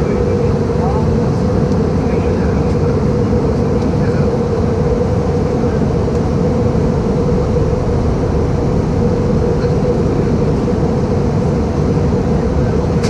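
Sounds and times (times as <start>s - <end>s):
airplane cabin engine rumble: 0.0s - 13.0s
steady hum: 0.0s - 13.0s.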